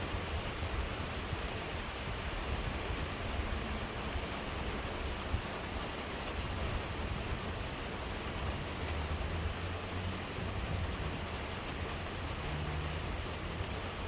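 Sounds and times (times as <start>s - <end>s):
heavy rain pouring: 0.0s - 14.0s
wind rumbling on microphone: 0.0s - 14.0s.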